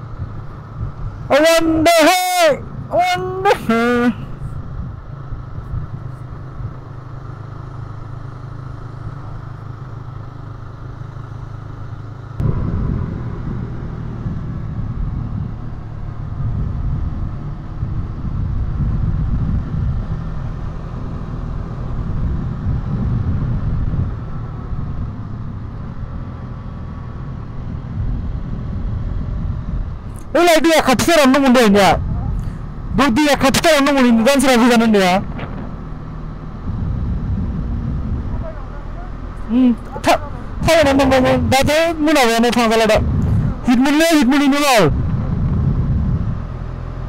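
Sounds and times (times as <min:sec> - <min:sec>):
motorcycle engine rumbling: 0:00.0 - 0:47.0.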